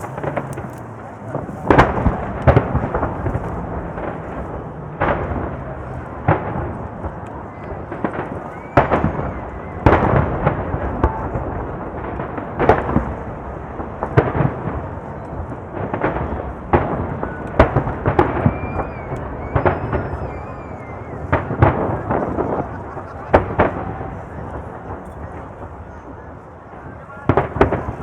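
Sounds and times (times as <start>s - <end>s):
continuous rumble: 0.0s - 28.0s
fireworks booming: 0.0s - 28.0s
fireworks whistling: 0.0s - 28.0s.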